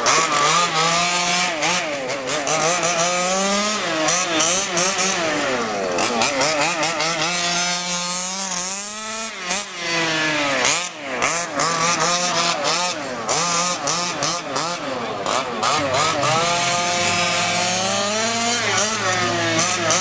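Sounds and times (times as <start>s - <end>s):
small two-stroke engines revving: 0.0s - 20.0s.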